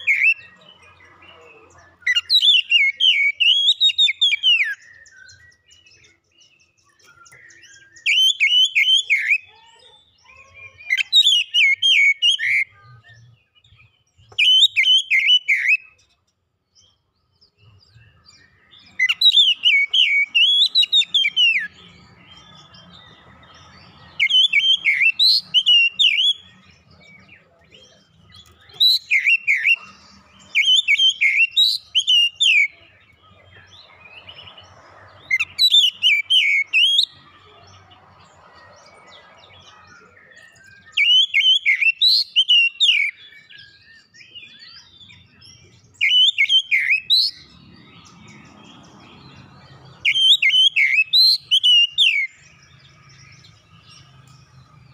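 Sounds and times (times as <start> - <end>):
bird whistling song: 0.0 - 0.7, 1.3 - 16.1, 16.8 - 37.3, 38.9 - 54.9.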